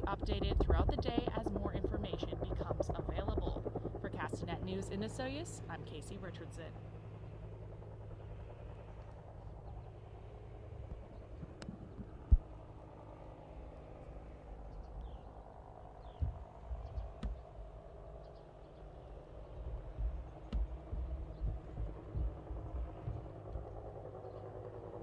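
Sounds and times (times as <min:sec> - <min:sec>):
low rumble with thumps: 0:00.0 - 0:05.8, 0:07.7 - 0:25.0
steady low hum: 0:00.0 - 0:25.0.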